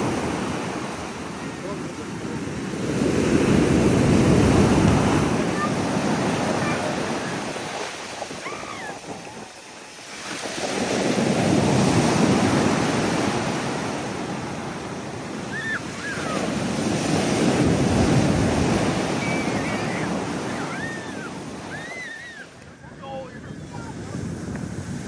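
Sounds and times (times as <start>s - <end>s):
sea waves breaking: 0.0s - 25.0s
wind buffeting microphone: 0.0s - 25.0s.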